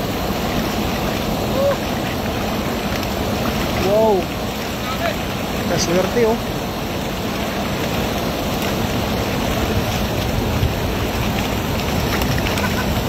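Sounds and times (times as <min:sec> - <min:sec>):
river water rushing: 0:00.0 - 0:13.0
wind on microphone: 0:00.0 - 0:13.0.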